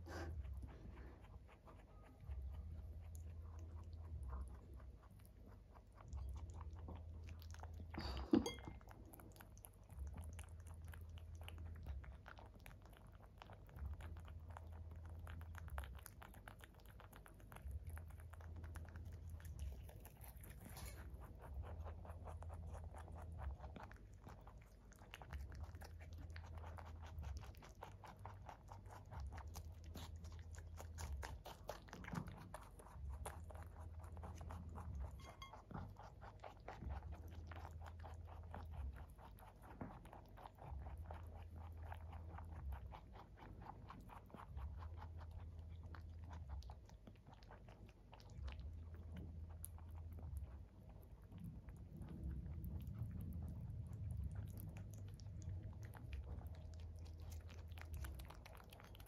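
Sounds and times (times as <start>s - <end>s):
rabbit chewing and crunching: 0.0s - 59.0s.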